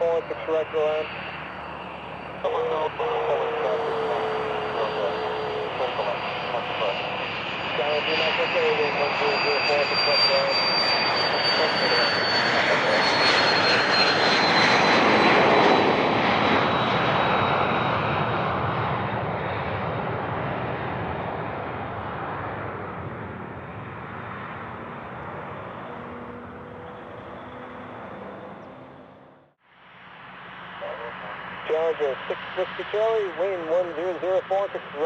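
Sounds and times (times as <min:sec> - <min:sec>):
jet engines passing: 0:00.0 - 0:35.0.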